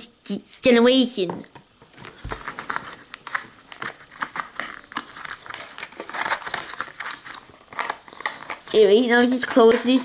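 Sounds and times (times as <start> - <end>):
packaging crinkling and rustling: 1.8 - 10.0.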